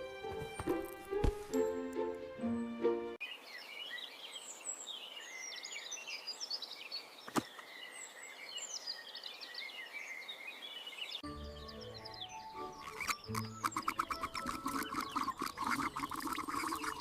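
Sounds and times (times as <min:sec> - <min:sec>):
small birds chirping and trilling: 0:03.2 - 0:17.0.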